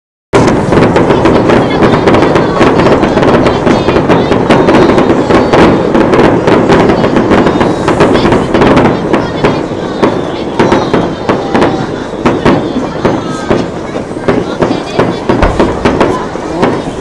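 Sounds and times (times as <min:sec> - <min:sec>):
fireworks bangs and crackles: 0:00.4 - 0:17.0.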